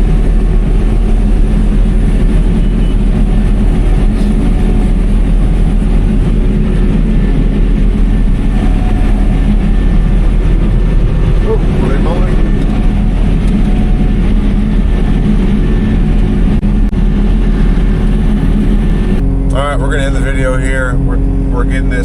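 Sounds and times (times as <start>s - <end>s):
harvester engine drone: 0.0s - 22.0s.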